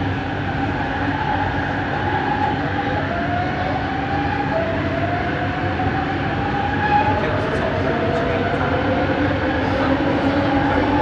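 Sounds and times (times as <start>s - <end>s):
train car rumbling: 0.0s - 11.0s.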